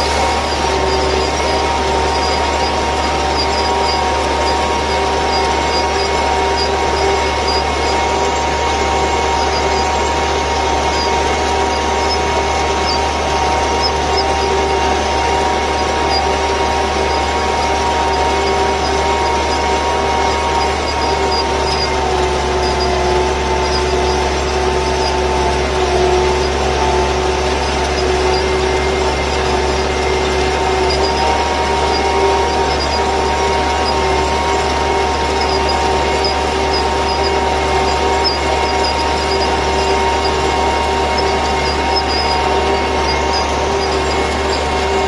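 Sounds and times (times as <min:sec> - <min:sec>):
tractor diesel engine under load: 0:00.0 - 0:45.0.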